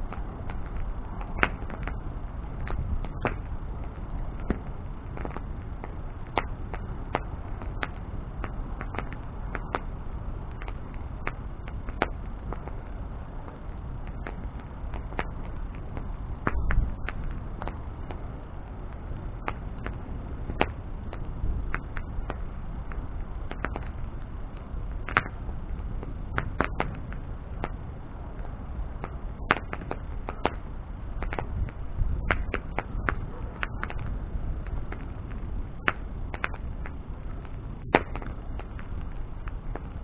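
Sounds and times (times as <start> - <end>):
bonfire crackling: 0.0 - 40.0
low rush of burning: 0.0 - 40.0.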